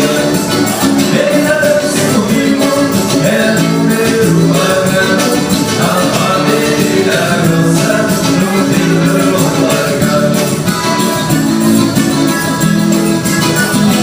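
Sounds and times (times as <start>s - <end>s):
latin band music: 0.0s - 14.0s
steady percussion beat: 0.0s - 14.0s.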